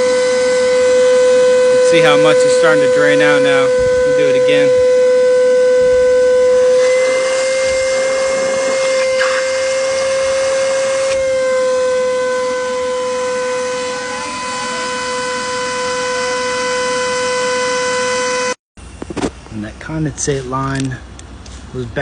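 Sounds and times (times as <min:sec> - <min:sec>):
rushing air being sucked: 0:00.0 - 0:17.9
shop vac whining: 0:00.0 - 0:22.0.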